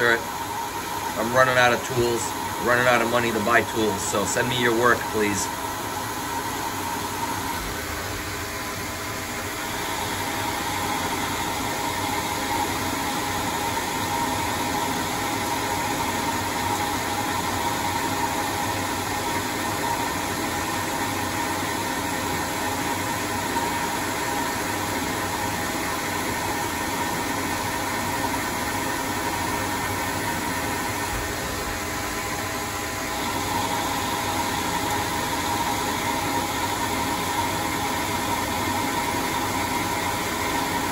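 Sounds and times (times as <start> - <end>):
lathe spindle whine: 0.0 - 40.9.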